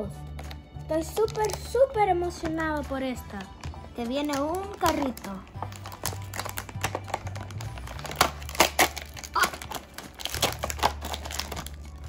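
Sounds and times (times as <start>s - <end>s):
background music bass notes: 0.0s - 12.0s
foil lid crinkling: 0.4s - 12.0s.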